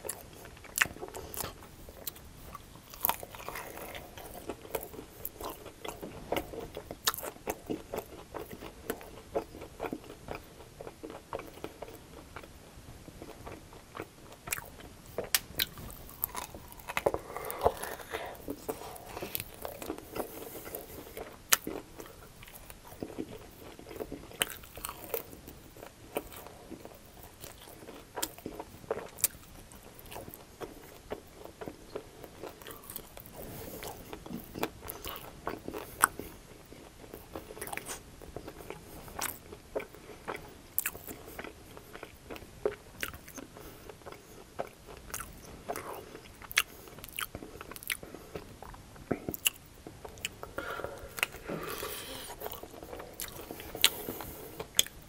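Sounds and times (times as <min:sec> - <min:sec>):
crunchy chewing of fried chicken: 0:00.0 - 0:55.0.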